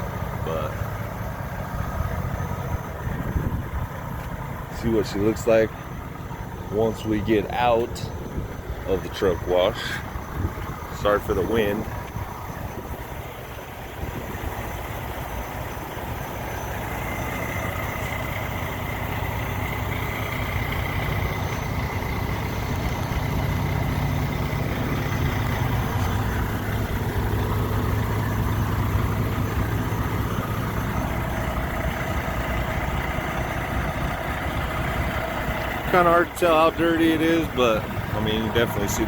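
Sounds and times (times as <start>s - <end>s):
diesel truck engine idling: 0.0s - 39.0s.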